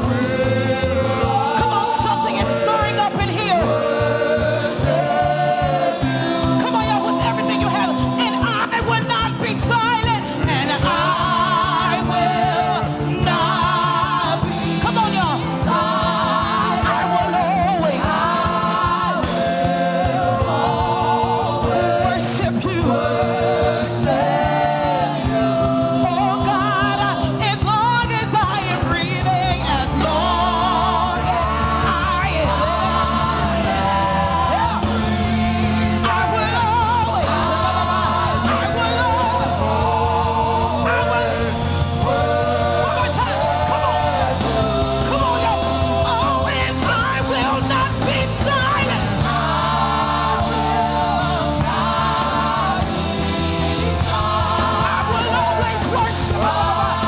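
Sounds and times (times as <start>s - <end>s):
gospel worship song: 0.0s - 57.0s.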